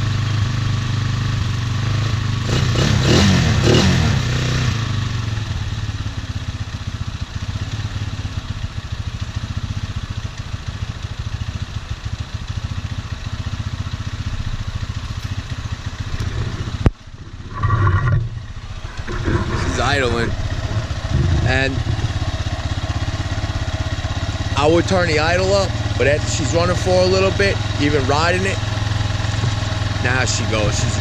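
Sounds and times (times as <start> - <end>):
atv engine revving and idling: 0.0 - 31.0.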